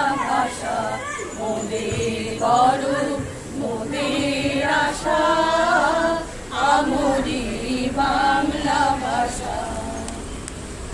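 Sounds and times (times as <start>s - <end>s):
group singing unaccompanied: 0.0s - 10.5s.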